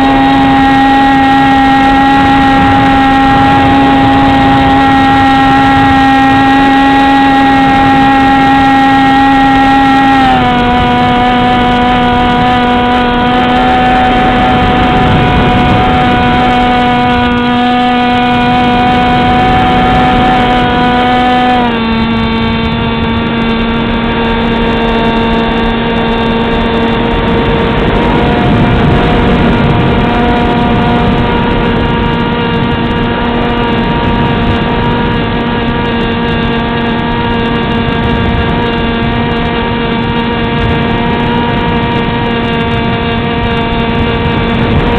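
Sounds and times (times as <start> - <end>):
model plane motor whine: 0.0 - 44.9.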